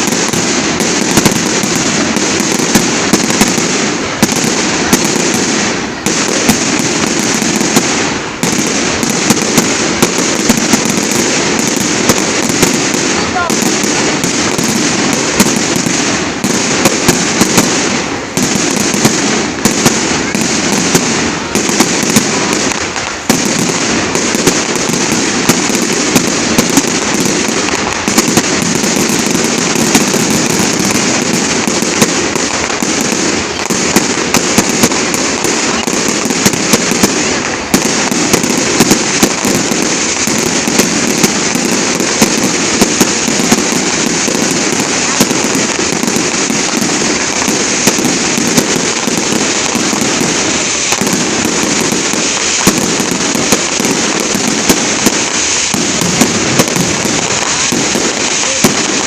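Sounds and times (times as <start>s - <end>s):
fireworks bangs: 0.0s - 59.0s
fireworks crackling: 0.0s - 59.0s.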